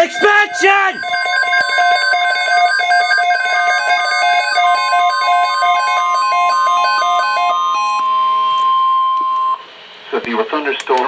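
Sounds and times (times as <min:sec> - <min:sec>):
electronic beeps hopping between pitches: 0:00.0 - 0:09.6
steady alarm tone: 0:00.0 - 0:09.7.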